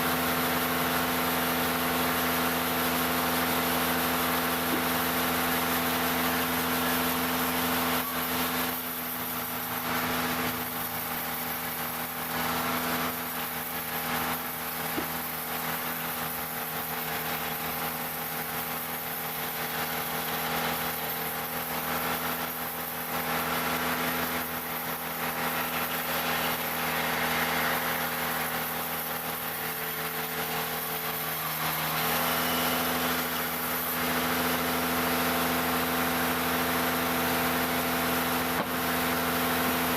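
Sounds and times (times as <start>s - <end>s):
saw hissing through wood: 0.0s - 39.9s
sawmill engine running: 0.0s - 39.9s.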